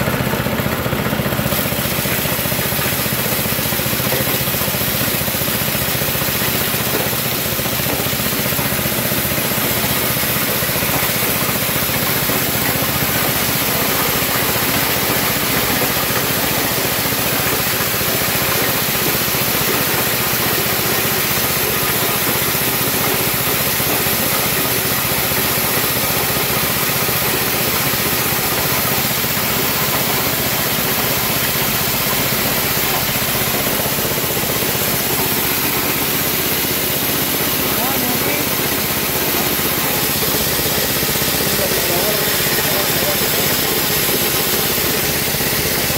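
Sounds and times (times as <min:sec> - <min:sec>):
small petrol engine running: 0:00.0 - 0:45.9.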